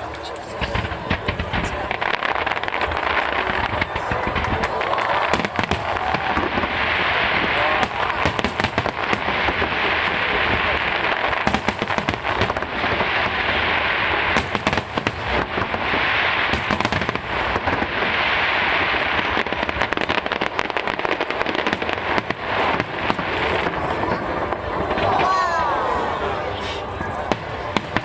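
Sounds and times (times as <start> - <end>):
fireworks bangs and pops: 0.0 - 28.0
fireworks crackle: 0.0 - 28.0.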